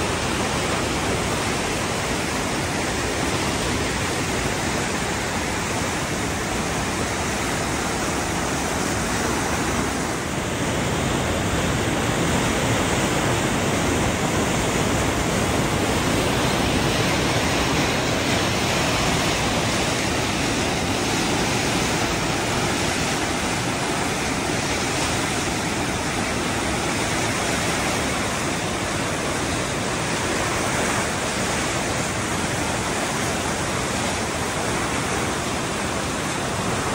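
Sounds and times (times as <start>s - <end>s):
river rapids roaring: 0.0s - 36.9s.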